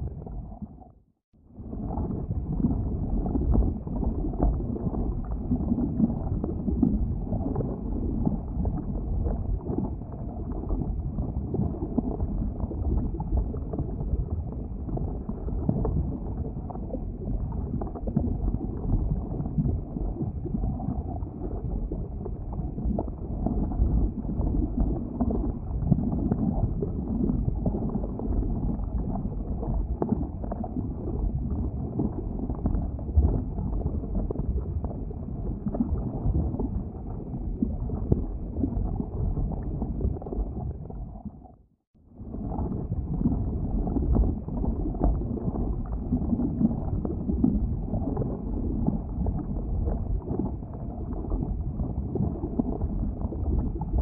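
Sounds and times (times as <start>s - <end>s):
lava rumbling: 0.0s - 0.9s, 1.5s - 41.6s, 42.2s - 54.0s
lava bubbling and popping: 0.0s - 54.0s.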